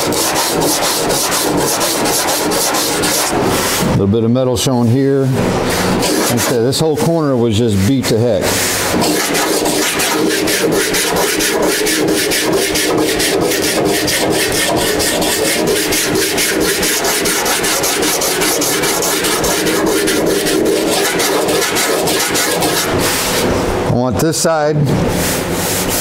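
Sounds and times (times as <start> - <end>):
sandpaper rasping over filler: 0.0 - 3.9, 5.8 - 7.1, 8.0 - 23.5, 25.1 - 26.0.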